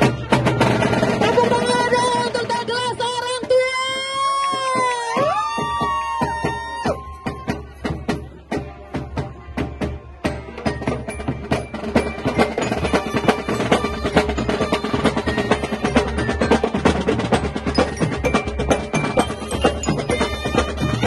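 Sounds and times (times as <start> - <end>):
marching band melody: 0.0 - 21.0
snare and bass drums: 0.0 - 21.0.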